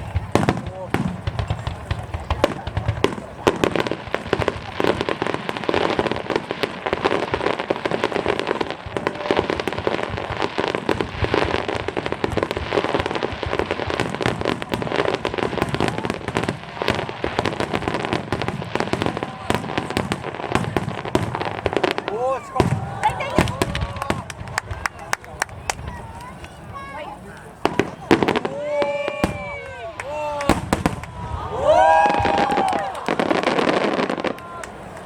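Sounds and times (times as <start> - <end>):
fireworks banging and crackling: 0.0 - 35.0.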